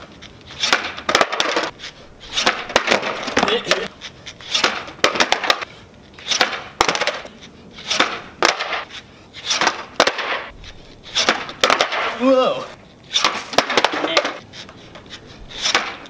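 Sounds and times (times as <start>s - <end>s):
skateboard wheels rolling: 0.0s - 16.0s
skateboard cracking and clacking: 0.5s - 3.9s, 4.5s - 7.3s, 7.9s - 12.2s, 13.1s - 16.0s.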